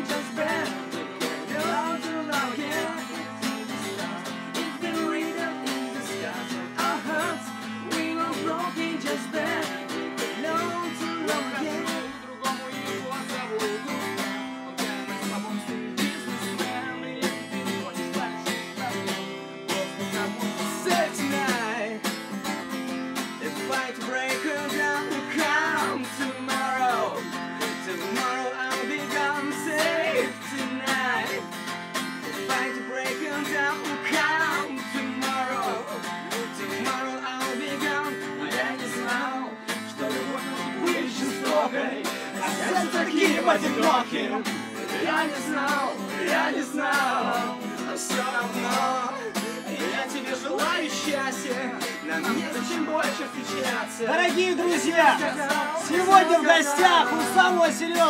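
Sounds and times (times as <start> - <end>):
acoustic guitars strummed: 0.0 - 58.0
man singing: 0.0 - 58.0.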